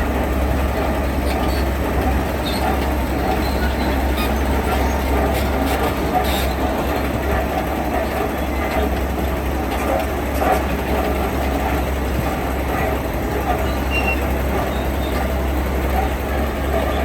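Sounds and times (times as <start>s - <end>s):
diesel machinery engine rumble: 0.0s - 17.0s.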